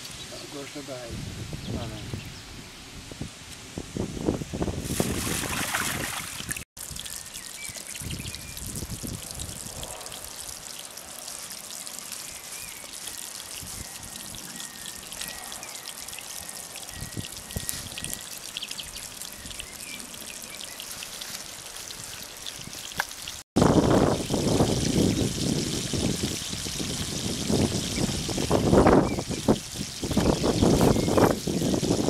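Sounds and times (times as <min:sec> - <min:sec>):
fat sizzling and crackling: 0:04.8 - 0:32.0.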